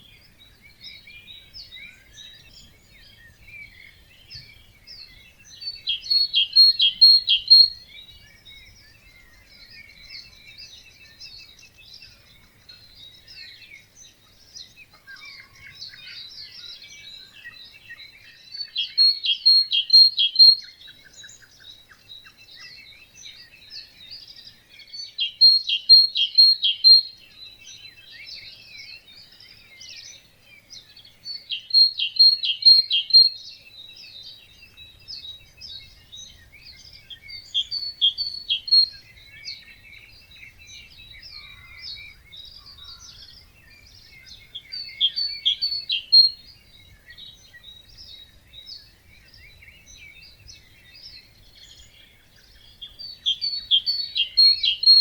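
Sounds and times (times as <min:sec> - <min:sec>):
birds singing and chirping: 0:00.0 - 0:55.0.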